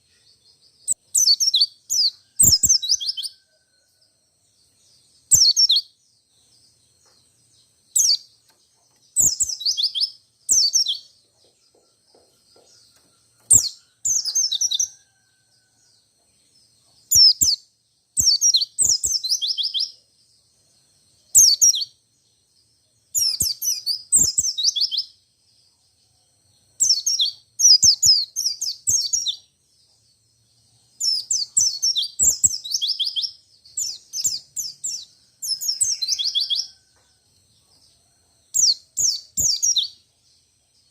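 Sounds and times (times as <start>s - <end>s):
bird chirping trills: 0.0s - 40.9s.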